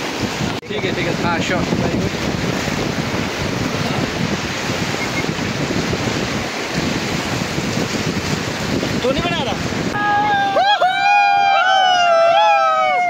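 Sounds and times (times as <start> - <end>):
turbulent river water rushing: 0.0 - 13.0
wind noise on microphone: 0.0 - 13.0.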